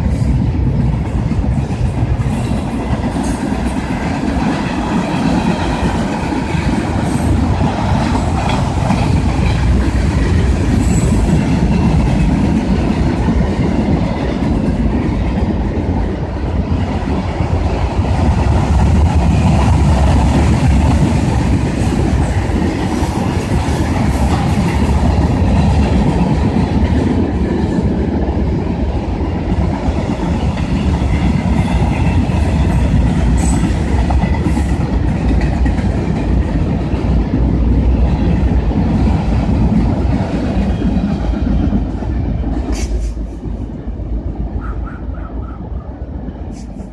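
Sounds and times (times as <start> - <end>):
freight train cars rumbling: 0.0 - 46.9.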